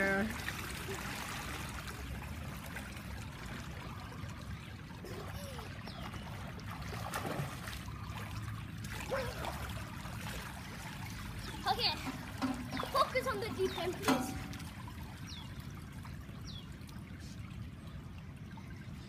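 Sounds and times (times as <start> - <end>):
pool water trickling and lapping: 0.0 - 19.0.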